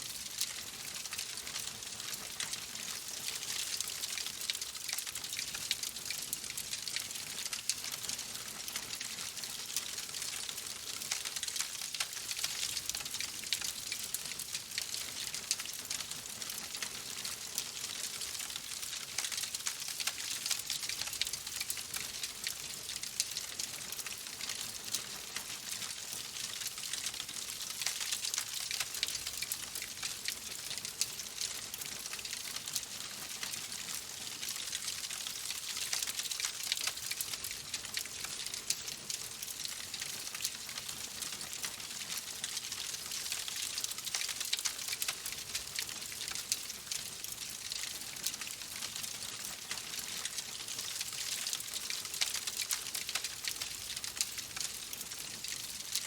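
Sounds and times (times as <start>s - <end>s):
wood fire crackling and popping: 0.1s - 56.0s.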